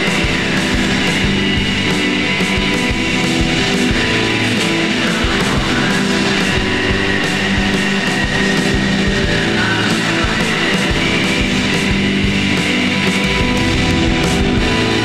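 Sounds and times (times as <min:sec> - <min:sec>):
fuzzed electric guitars: 0:00.0 - 0:15.0
steady drum beat: 0:00.0 - 0:15.0.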